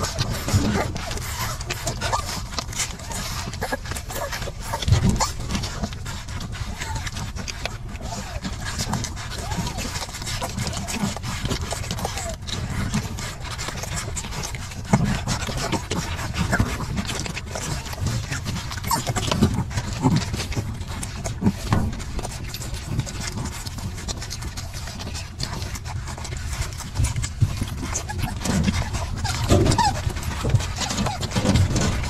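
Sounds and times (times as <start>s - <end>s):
puppies suckling wet smacking: 0.0s - 32.0s
puppies whimpering and grunting: 0.0s - 32.0s.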